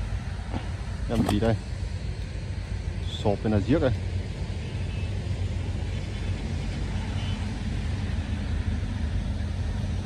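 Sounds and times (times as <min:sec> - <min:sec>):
electrofishing machine drone: 0:00.0 - 0:10.0.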